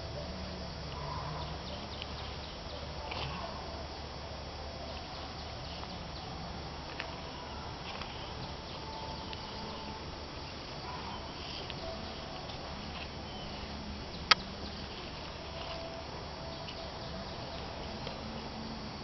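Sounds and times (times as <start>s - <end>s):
insects: 0.0s - 19.0s
faint ticks: 0.1s - 3.6s, 4.9s - 18.9s
animal sounds: 0.2s - 19.0s.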